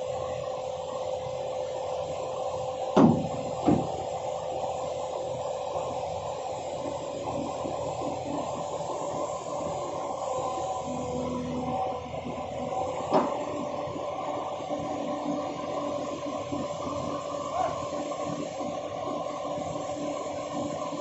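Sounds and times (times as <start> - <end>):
excavator engine and hydraulic hum: 0.0 - 21.0.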